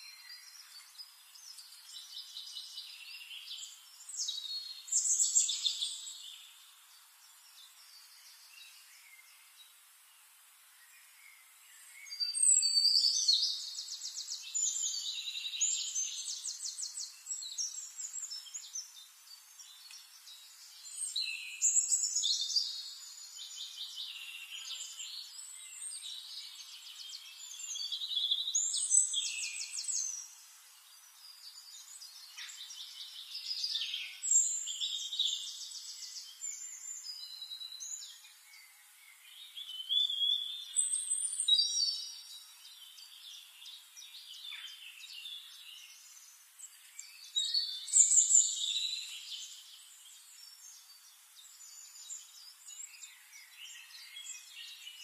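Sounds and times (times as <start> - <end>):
songbird trills and chirps: 0.0 - 55.0.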